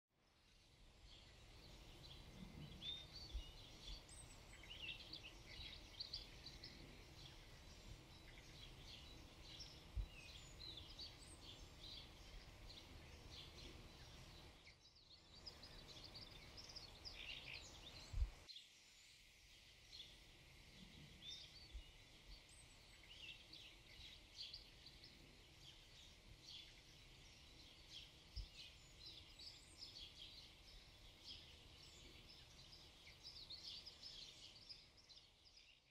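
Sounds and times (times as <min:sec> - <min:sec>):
small birds chirping: 0:00.2 - 0:35.9.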